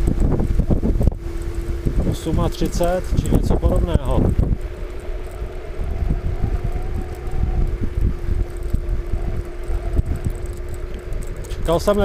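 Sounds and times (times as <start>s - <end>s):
electric scooter motor whine: 0.0s - 12.0s
wind buffeting microphone: 0.0s - 12.0s.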